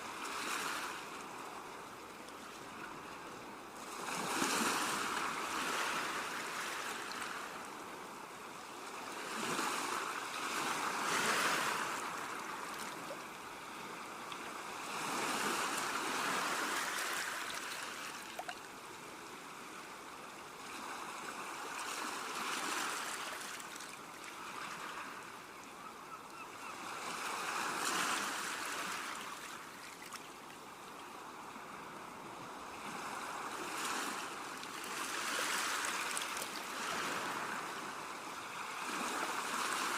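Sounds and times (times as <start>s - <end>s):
small waves washing on shore: 0.0s - 25.6s, 26.6s - 39.9s.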